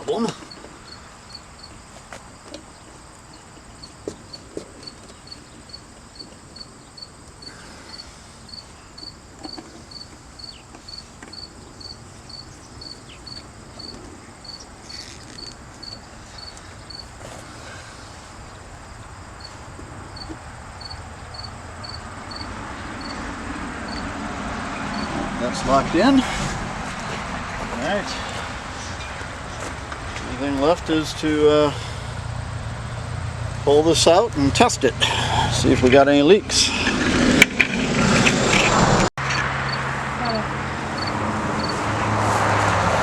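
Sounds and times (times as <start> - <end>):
cricket chirping: 0.0 - 33.6, 39.3 - 41.8.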